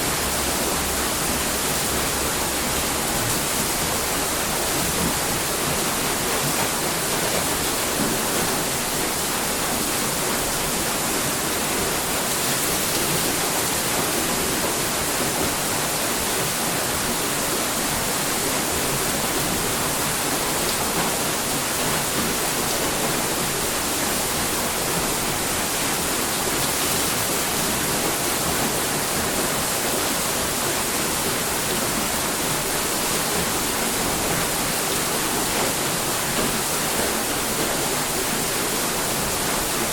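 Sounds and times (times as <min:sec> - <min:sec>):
water rushing and falling: 0:00.0 - 0:39.9.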